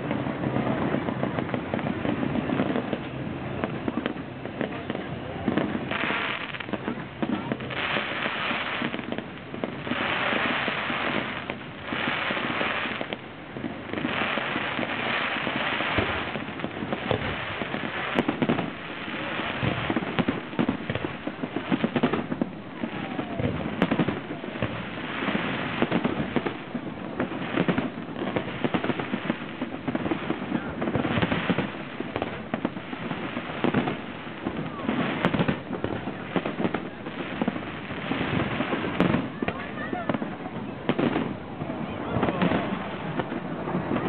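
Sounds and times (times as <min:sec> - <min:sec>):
fireworks bangs and crackles: 0:00.0 - 0:44.0
fireworks hissing: 0:00.0 - 0:44.0.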